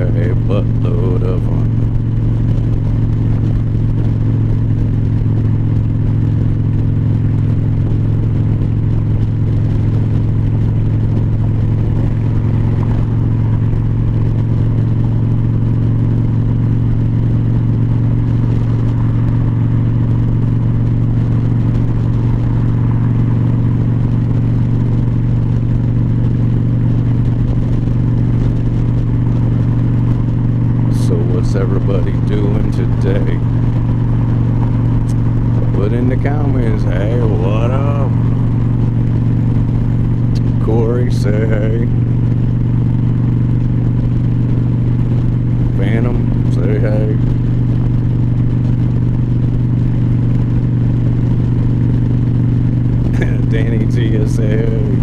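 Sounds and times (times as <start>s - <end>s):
motorcycle engine droning: 0.0s - 55.0s
wind and road noise: 0.0s - 55.0s.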